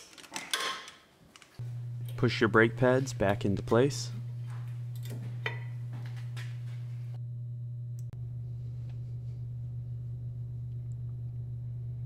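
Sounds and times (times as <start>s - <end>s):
steady low hum: 1.6s - 12.0s.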